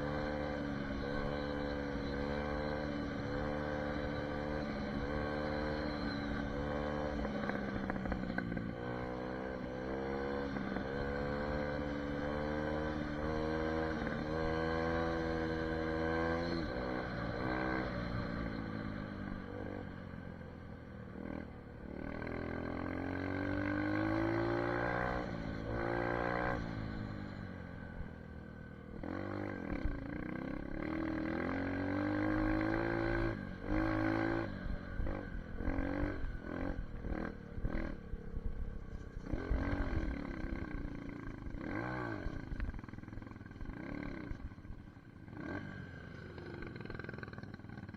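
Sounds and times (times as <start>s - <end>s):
dirt bike engine revving: 0.0s - 19.9s, 21.2s - 27.4s, 28.9s - 47.9s.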